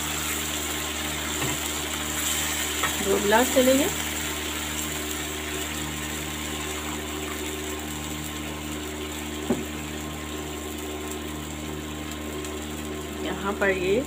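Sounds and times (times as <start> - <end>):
broth bubbling in a wok: 0.0 - 14.0
steady mechanical hum: 0.0 - 14.0.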